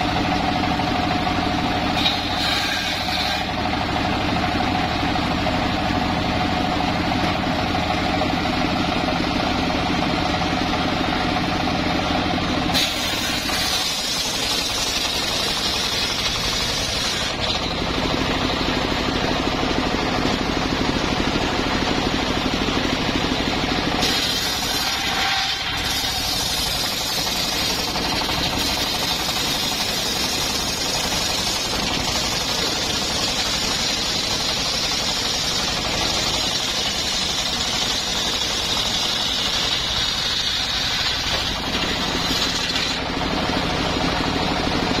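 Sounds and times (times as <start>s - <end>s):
circular saw blade cutting log: 0.0s - 18.8s, 23.2s - 44.0s
sawmill engine running: 0.0s - 45.0s.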